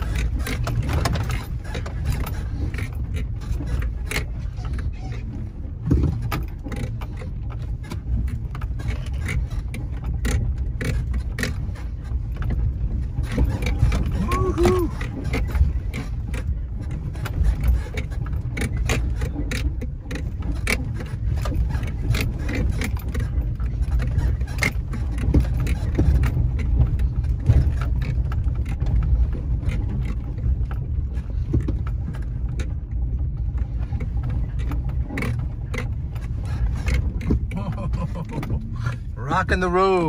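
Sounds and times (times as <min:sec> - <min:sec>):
engine and tyre rumble: 0:00.0 - 0:40.0
knocks and rattles of vehicle body: 0:00.0 - 0:40.0.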